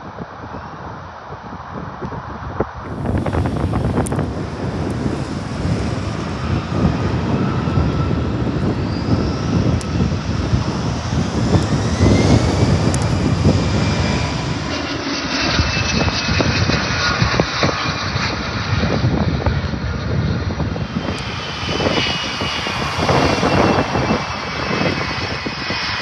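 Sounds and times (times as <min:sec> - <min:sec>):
jet engine steady whine: 0:00.0 - 0:26.0
wind on microphone: 0:00.0 - 0:26.0
jet engines spooling up: 0:02.8 - 0:26.0.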